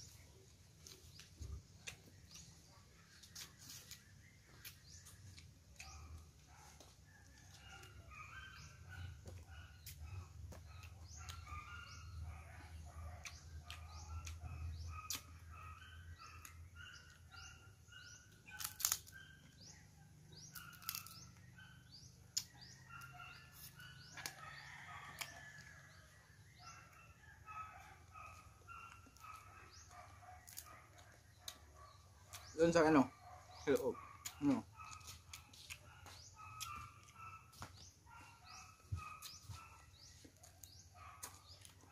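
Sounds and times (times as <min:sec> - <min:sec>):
faint birds chirping: 0:00.0 - 0:41.9.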